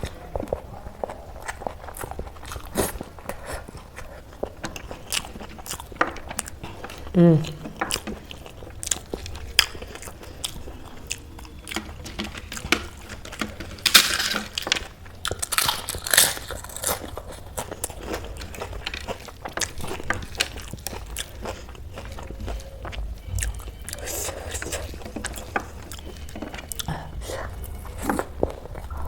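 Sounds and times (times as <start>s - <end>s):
chewing and crunching crisp food: 0.0s - 29.0s.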